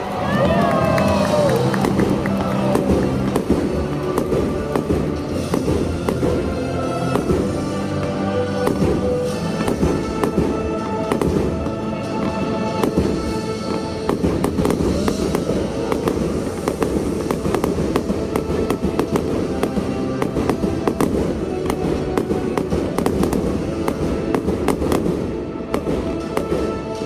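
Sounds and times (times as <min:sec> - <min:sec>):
fireworks bangs and crackles: 0:00.0 - 0:27.0
music playing: 0:00.0 - 0:27.0.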